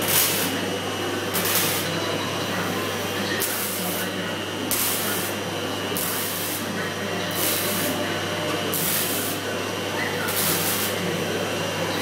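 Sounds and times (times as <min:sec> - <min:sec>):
welding arc crackling and hissing: 0:00.0 - 0:12.0.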